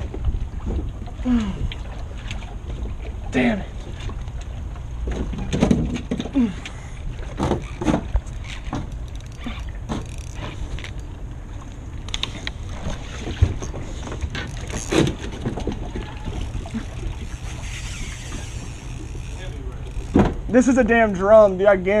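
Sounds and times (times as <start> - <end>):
fishing gear and hull knocks: 0.0 - 20.6.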